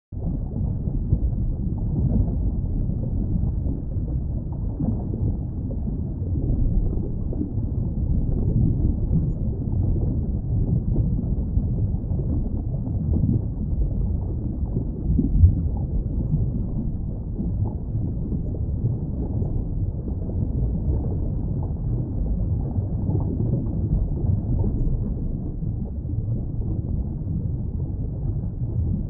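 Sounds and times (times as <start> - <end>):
underwater rumble of moving water: 0.1 - 29.0.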